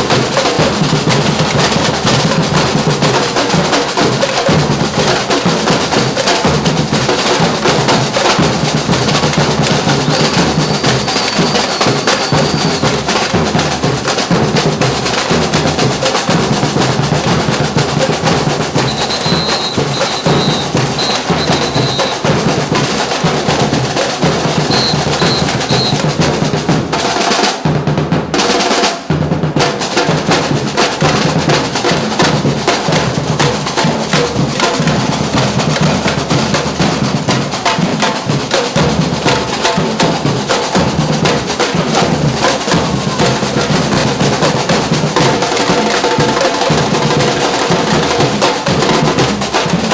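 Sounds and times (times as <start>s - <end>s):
bass drum: 0.0s - 28.3s, 29.2s - 45.4s
snare drum rolls: 0.0s - 49.9s
street drum band playing: 0.0s - 49.9s.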